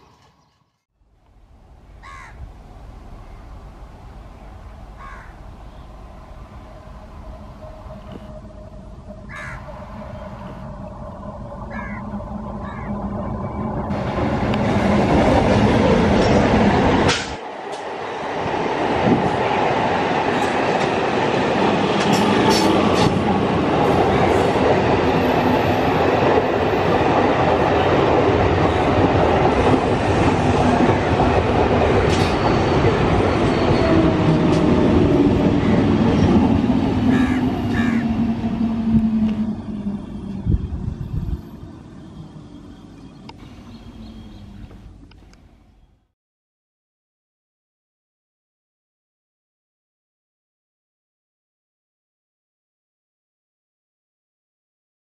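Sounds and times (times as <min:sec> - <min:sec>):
electric train passing: 0:01.2 - 0:45.8.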